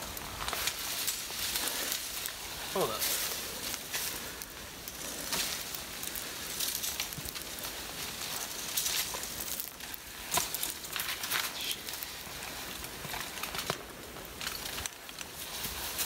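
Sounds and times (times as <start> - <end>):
rustling and crunching: 0.0 - 16.0.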